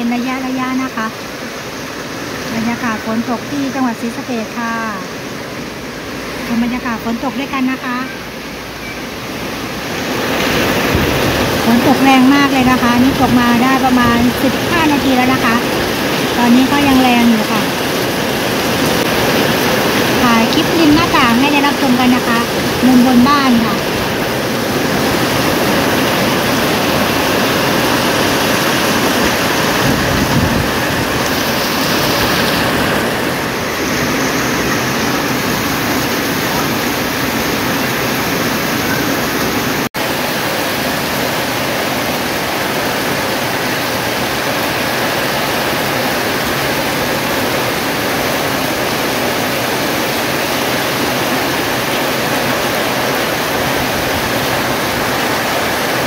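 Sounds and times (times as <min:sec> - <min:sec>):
heavy rain on metal roofs and trees: 0:00.0 - 0:56.0.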